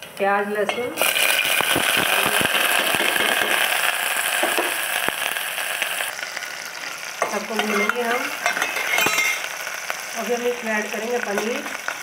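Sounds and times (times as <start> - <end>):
onion sizzling in hot oil: 0.0 - 12.0
oil crackling and popping: 1.0 - 12.0.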